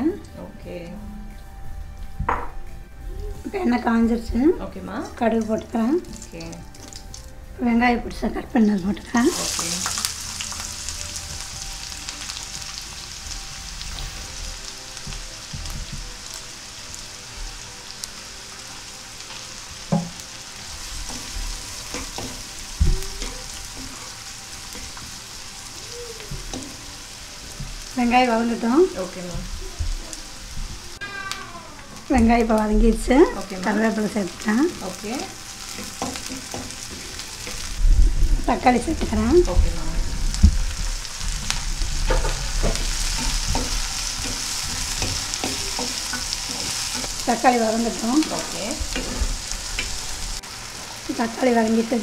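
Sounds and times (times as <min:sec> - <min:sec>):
onions sizzling in hot oil: 0:03.2 - 0:52.0.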